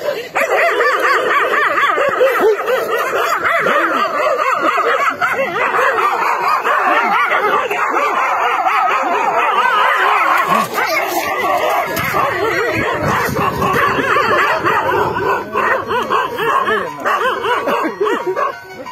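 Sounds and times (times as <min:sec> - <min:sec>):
dogs barking and yelping: 0:00.0 - 0:18.9.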